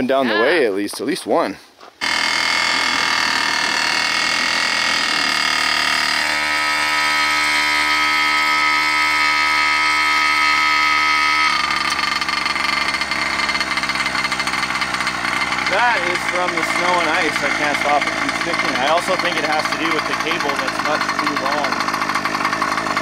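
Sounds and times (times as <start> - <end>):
two-stroke engine running: 2.0 - 23.0.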